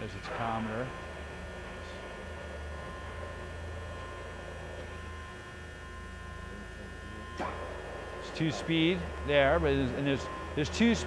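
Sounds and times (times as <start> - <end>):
drill press humming: 0.0 - 11.0.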